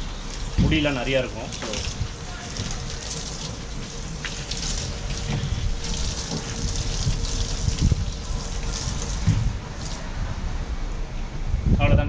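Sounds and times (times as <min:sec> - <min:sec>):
hose spraying water: 0:00.0 - 0:10.2.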